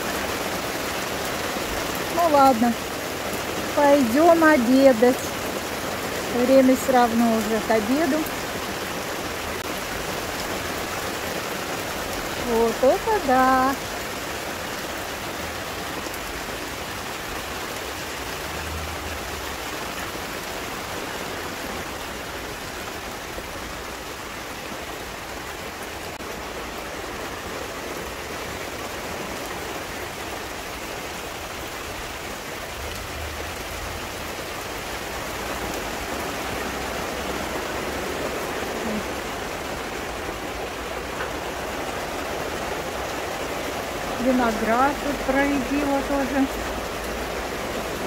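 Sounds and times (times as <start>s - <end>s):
heavy rain on foliage: 0.0s - 48.0s.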